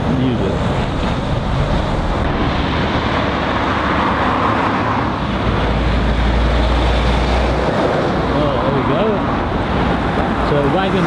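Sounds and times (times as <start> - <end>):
lorry diesel engine: 0.0 - 11.0.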